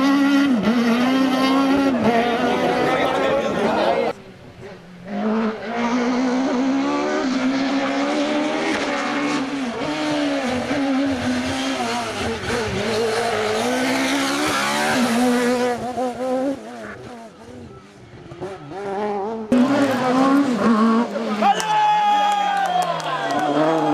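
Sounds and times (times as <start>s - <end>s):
rally car engine revving: 0.0s - 4.1s, 5.1s - 21.6s.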